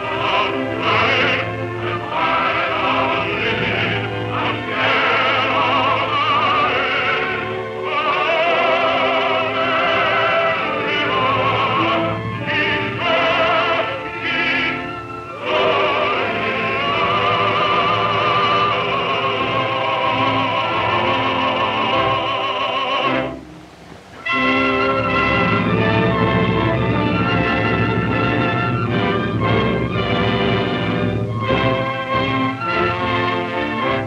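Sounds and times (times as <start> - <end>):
man singing opera: 0.0 - 23.4, 24.2 - 34.0
low recording hum: 0.0 - 34.0.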